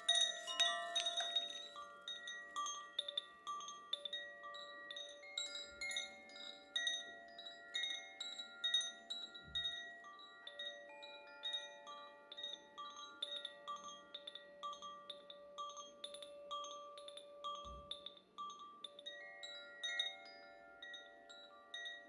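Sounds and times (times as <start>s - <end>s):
wind chime ringing: 0.0s - 22.0s.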